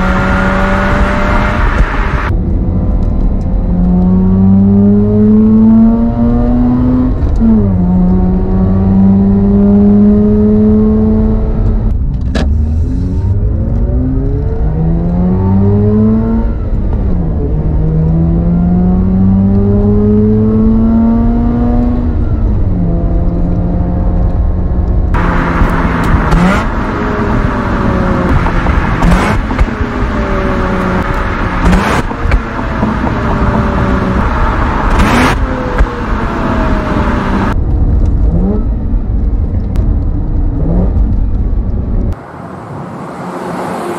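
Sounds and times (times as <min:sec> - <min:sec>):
rotary engine accelerating: 0:00.0 - 0:02.4, 0:03.6 - 0:11.9, 0:12.6 - 0:37.6
road noise: 0:00.0 - 0:43.9.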